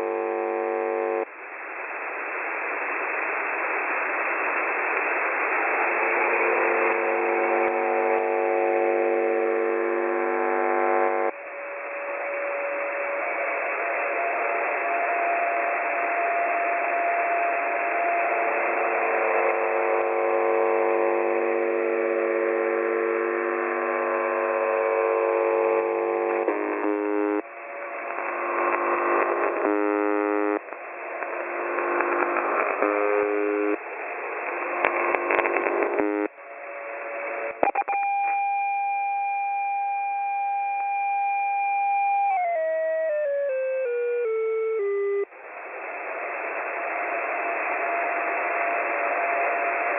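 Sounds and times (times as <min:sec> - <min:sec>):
steady radio tones: 0:00.0 - 0:11.4, 0:16.8 - 0:49.9
radio static hiss: 0:00.0 - 0:49.9.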